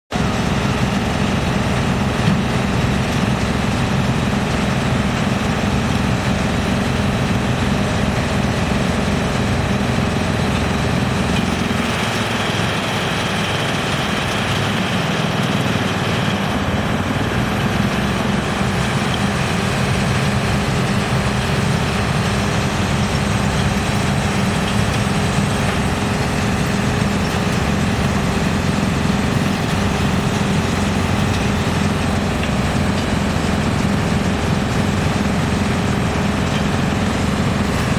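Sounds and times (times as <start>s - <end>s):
diesel excavator engine: 0.1s - 37.9s
wood chipper running: 0.1s - 37.9s.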